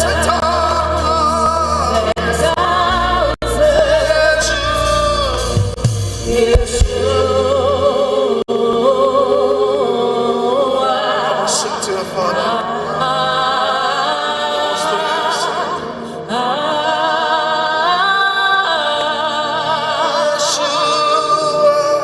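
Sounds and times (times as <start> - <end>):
gospel worship singing: 0.0 - 22.0
musical accompaniment: 0.0 - 22.0.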